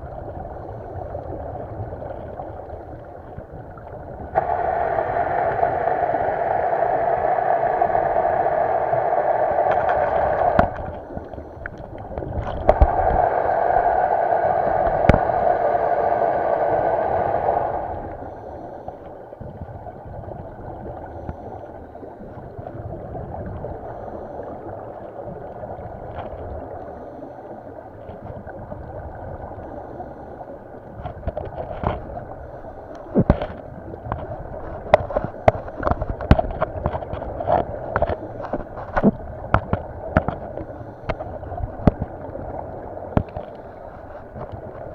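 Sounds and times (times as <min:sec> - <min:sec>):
underwater breath bubbles: 0:00.0 - 0:44.9
underwater water noise: 0:00.0 - 0:44.9.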